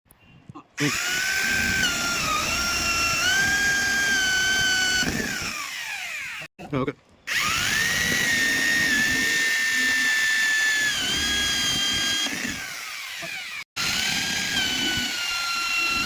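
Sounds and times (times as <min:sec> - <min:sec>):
electric drill whining: 0:00.8 - 0:06.5, 0:07.3 - 0:16.0.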